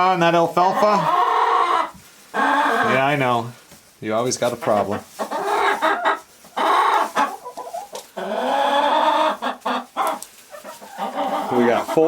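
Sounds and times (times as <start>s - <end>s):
hens clucking and calling: 0.4s - 3.6s, 4.4s - 12.0s.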